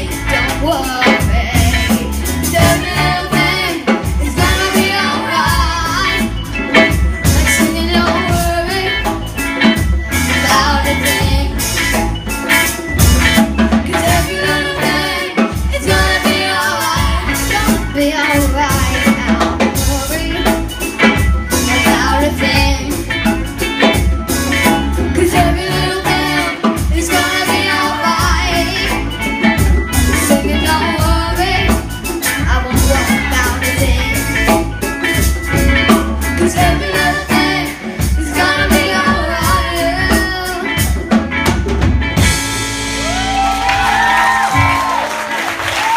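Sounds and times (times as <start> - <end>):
choir singing with band: 0.0 - 45.9
drum kit beat: 0.0 - 45.9.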